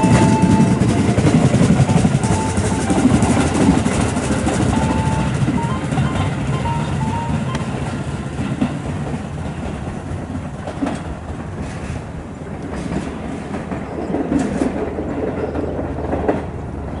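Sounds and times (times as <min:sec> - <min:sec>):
wheel clacks over rail joints: 0:00.0 - 0:16.5
electric train rumbling: 0:00.0 - 0:17.0.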